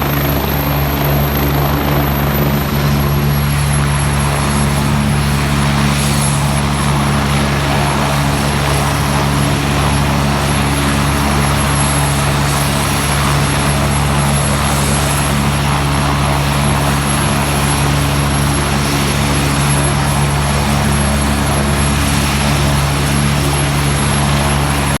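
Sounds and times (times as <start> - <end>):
helicopter rotor and turbine noise: 0.0 - 25.0.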